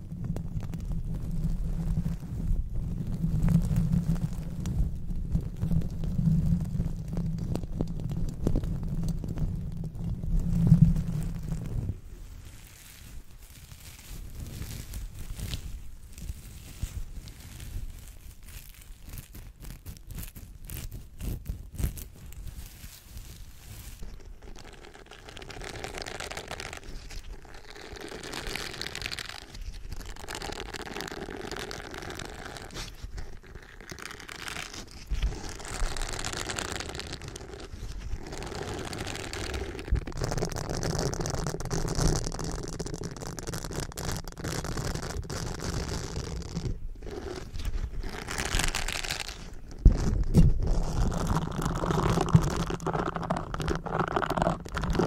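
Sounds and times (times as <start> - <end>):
pad rubbing microphone grille: 10.5 - 55.0.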